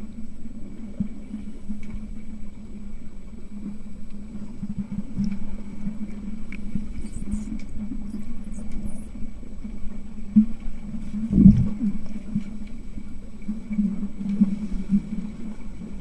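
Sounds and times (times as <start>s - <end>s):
low underwater hum: 0.0s - 16.0s
underwater bubbling: 0.0s - 16.0s.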